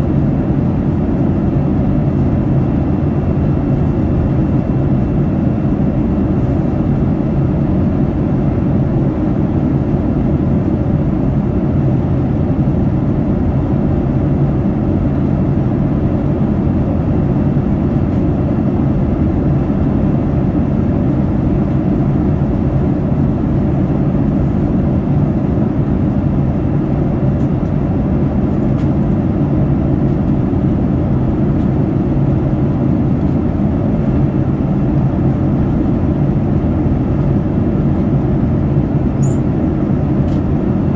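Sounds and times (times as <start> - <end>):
aircraft cabin engine rush: 0.0 - 40.9.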